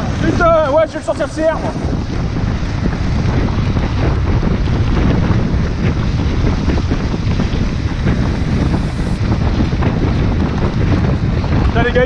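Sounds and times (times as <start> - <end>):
tyres crackling on dirt track: 0.0 - 12.0
wind buffeting microphone: 0.0 - 12.0.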